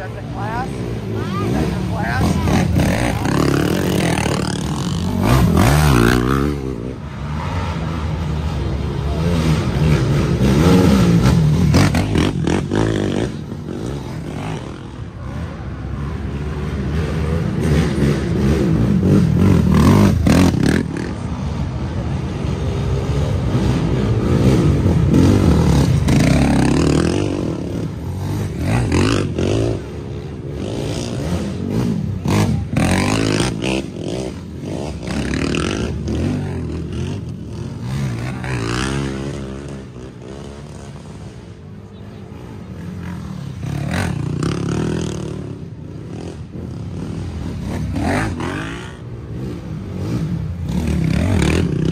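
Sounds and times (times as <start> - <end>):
atv engines revving: 0.0 - 51.9.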